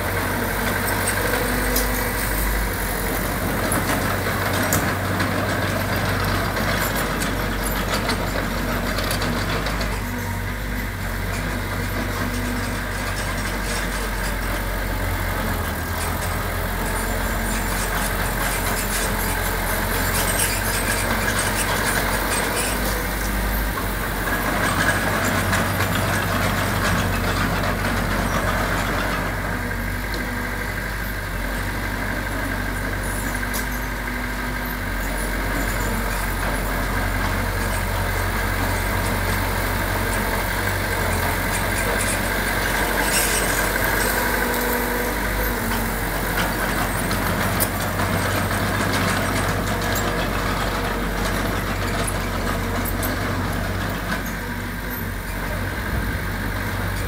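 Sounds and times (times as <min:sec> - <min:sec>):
heavy diesel engines humming: 0:00.0 - 0:57.0.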